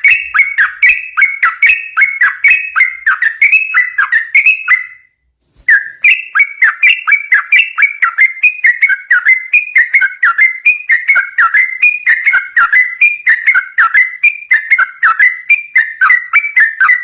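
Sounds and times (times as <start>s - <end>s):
bird singing whistled notes: 0.0s - 17.0s.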